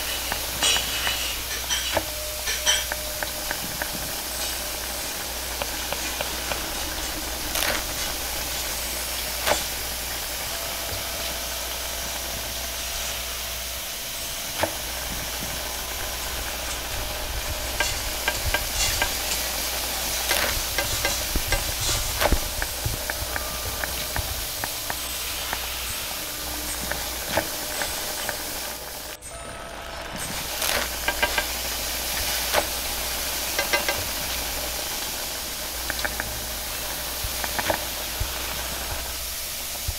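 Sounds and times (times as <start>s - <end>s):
gas burner hissing: 0.0s - 39.9s
noodles sizzling: 0.0s - 39.9s.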